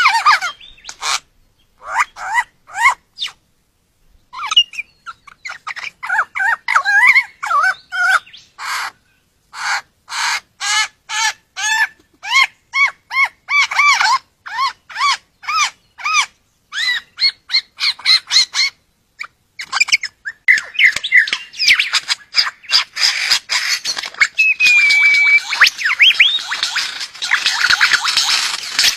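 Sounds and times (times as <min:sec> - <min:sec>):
lyrebird singing: 0:00.0 - 0:03.4, 0:04.3 - 0:28.9.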